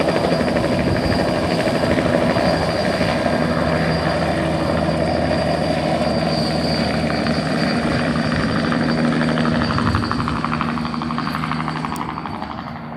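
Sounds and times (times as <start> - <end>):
helicopter rotor chop: 0.0 - 12.9
helicopter turbine whine: 0.0 - 12.9.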